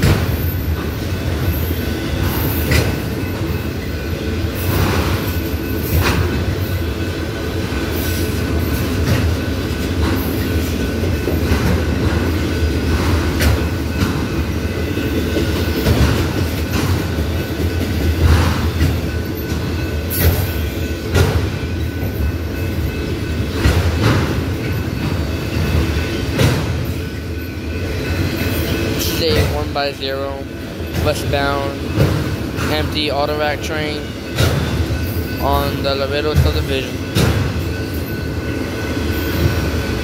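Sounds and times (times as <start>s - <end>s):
freight cars rumbling: 0.0s - 40.0s
wheels clacking over rail joints: 0.0s - 40.0s.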